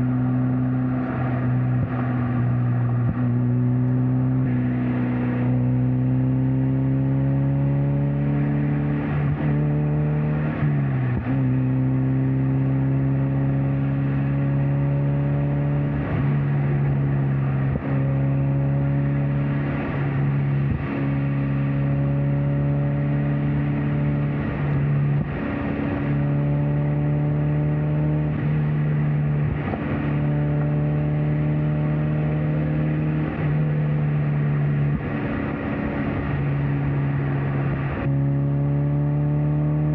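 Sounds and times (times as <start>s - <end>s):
car engine droning at cruise: 0.0s - 39.9s
tyre and road noise: 0.0s - 39.9s.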